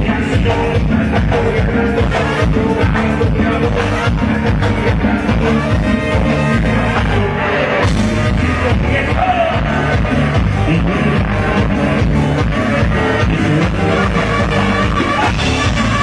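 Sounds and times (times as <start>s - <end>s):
live brass dance music: 0.0s - 16.0s.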